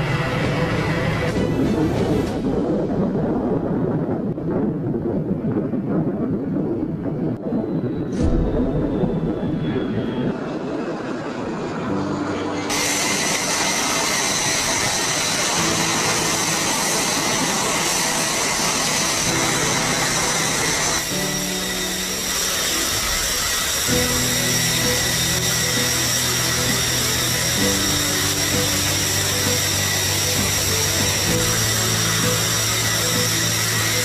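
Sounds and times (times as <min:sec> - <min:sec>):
background music with low notes: 0:00.0 - 0:03.9, 0:08.1 - 0:34.0
jet engine whine: 0:00.0 - 0:34.0.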